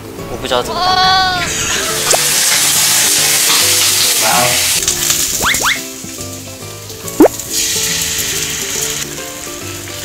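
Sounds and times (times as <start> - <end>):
background music: 0.0 - 10.0
meat sizzling in a wok: 1.5 - 10.0.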